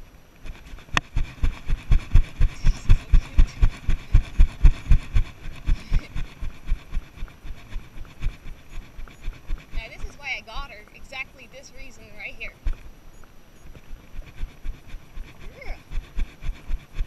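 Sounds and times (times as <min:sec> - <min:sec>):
horse hoofbeats on dirt: 0:00.0 - 0:13.0, 0:13.7 - 0:17.0.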